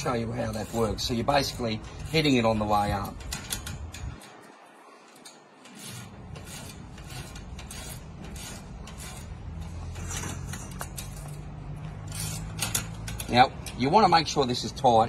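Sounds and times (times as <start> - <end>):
grinding wheel scraping saw teeth: 0.0 - 4.2, 5.1 - 11.4, 12.0 - 14.0.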